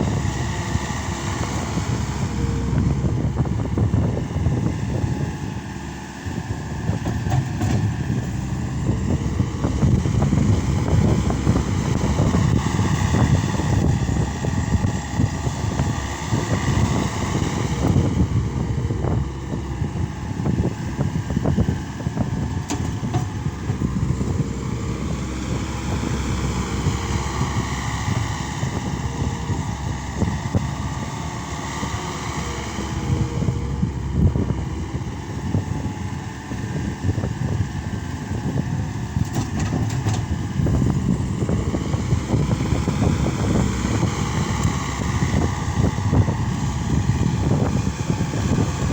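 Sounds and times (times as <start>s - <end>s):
loader engine revving: 0.0s - 48.9s.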